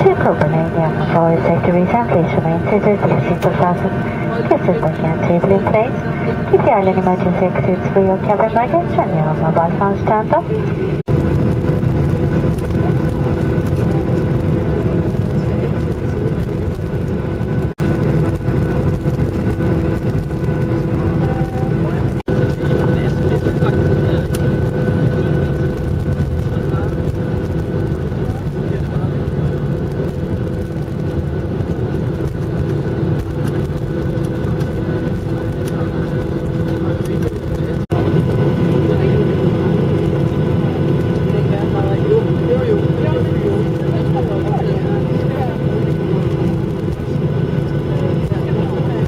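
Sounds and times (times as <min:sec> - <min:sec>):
constant whining tones: 0:00.0 - 0:49.0
jet cabin engine rumble: 0:00.0 - 0:49.0.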